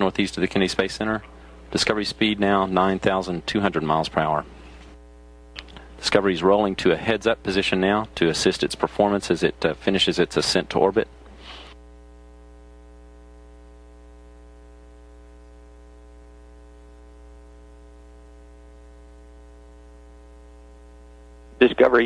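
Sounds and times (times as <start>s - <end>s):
electrical hum and buzz: 0.0s - 22.0s.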